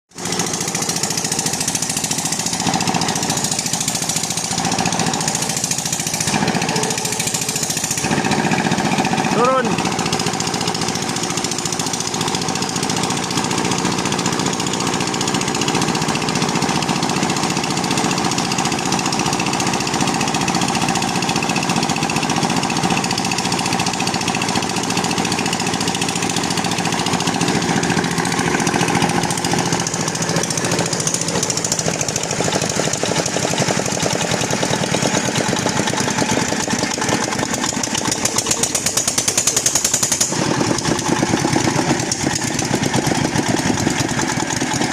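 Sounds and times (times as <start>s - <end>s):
drilling machine clattering: 0.2s - 44.9s.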